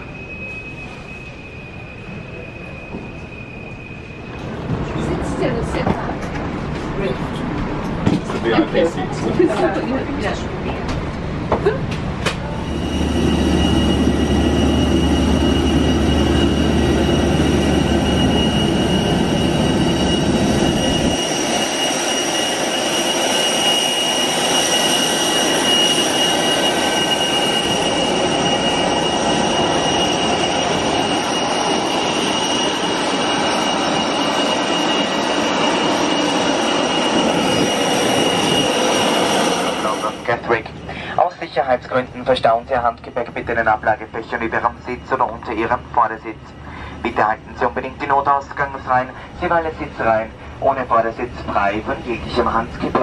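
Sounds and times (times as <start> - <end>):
jet engine whine: 0.0 - 53.0.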